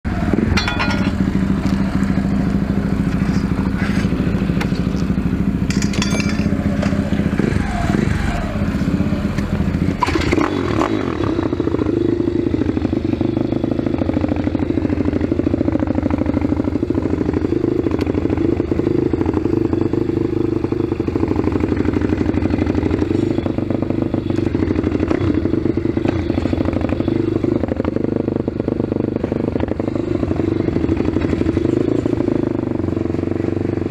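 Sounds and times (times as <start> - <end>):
motorbike engine running: 0.1 - 33.9.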